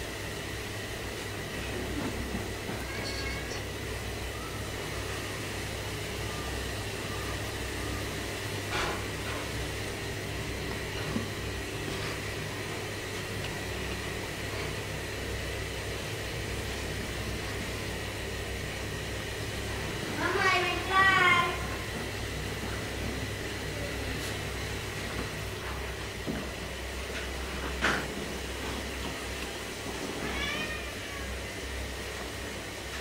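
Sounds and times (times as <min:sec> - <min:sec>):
low hum and hiss: 0:00.0 - 0:33.0.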